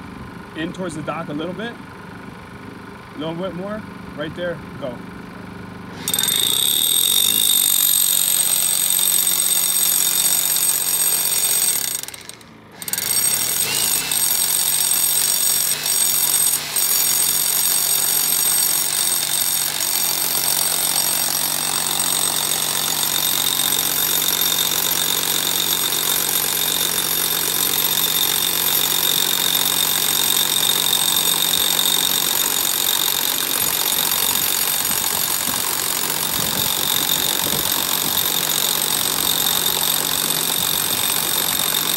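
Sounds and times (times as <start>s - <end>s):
hammer drill boring concrete: 5.9s - 41.9s.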